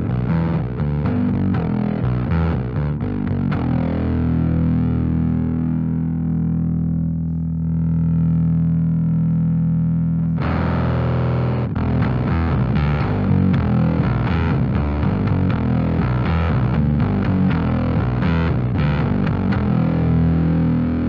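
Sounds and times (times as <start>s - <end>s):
fuzzed bass note sustaining: 0.0s - 21.0s.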